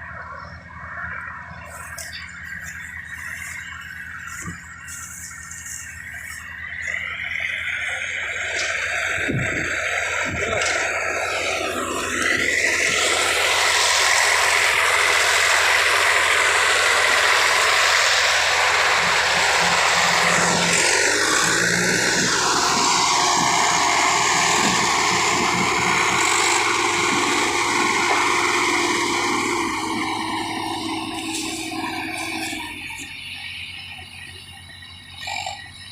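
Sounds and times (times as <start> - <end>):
tractor diesel engine under load: 0.0 - 35.9.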